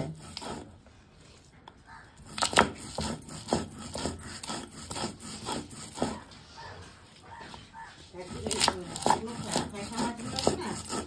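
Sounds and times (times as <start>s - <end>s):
stone roller grinding on stone: 0.0s - 1.4s, 2.2s - 11.0s.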